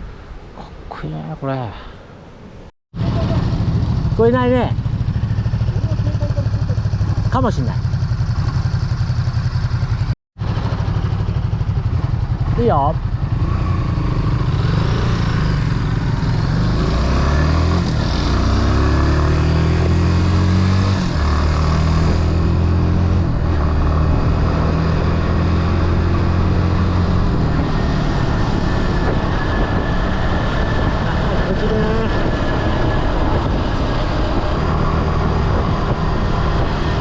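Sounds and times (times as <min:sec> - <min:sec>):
motorcycle engine accelerating: 0:03.0 - 0:37.0.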